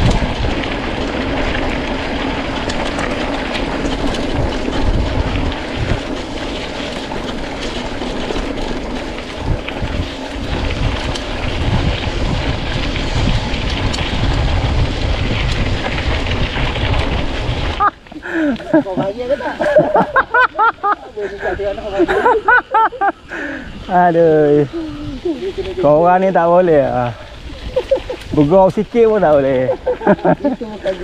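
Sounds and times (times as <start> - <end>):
bike rattling clicks: 0.0 - 20.8, 21.4 - 31.0
bike tyres rumbling on dirt: 0.0 - 31.0
wind buffeting microphone: 0.0 - 31.0.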